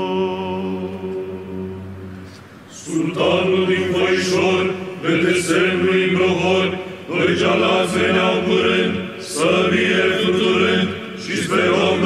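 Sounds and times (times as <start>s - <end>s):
male choir chanting: 0.0s - 2.0s, 2.7s - 12.0s
held low vocal drone: 0.0s - 12.0s.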